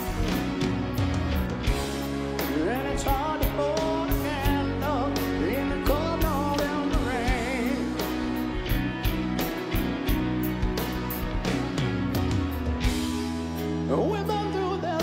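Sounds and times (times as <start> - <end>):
drums: 0.0 - 15.0
grand piano: 0.0 - 15.0
live rock band playing: 0.0 - 15.0
sliding lead melody with vibrato: 0.0 - 15.0.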